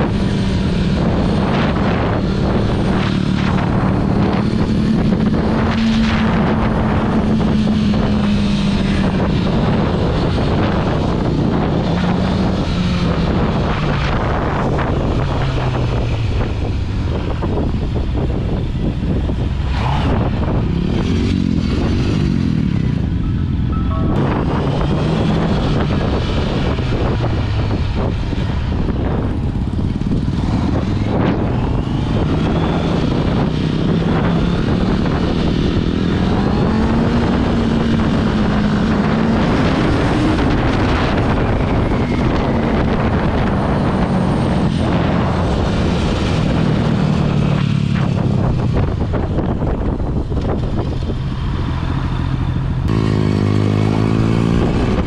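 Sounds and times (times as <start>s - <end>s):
wind rush: 0.0s - 55.0s.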